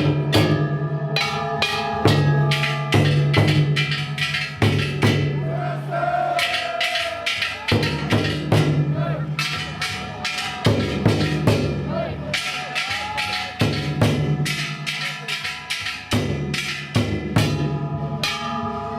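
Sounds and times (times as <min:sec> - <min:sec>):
bronze gongs clanging: 0:00.0 - 0:05.4, 0:06.4 - 0:18.9
taiko drum: 0:00.0 - 0:18.9.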